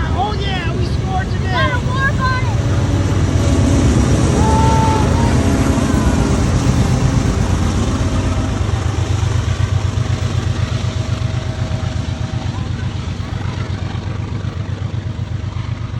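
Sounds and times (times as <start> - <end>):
freight train rumble: 0.0 - 15.9.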